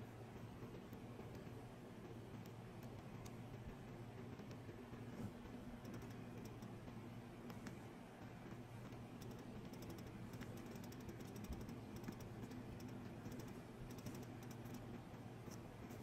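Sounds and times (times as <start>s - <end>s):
light clicks and taps on metal: 0.0s - 16.0s
steady low hum: 0.0s - 16.0s.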